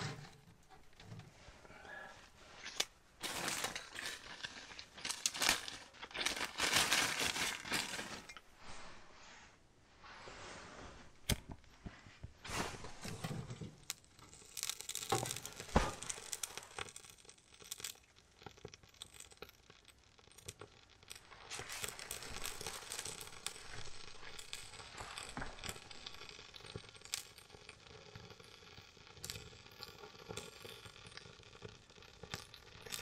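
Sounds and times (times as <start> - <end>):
wood fire crackling and snapping: 2.6 - 8.4, 11.2 - 33.0.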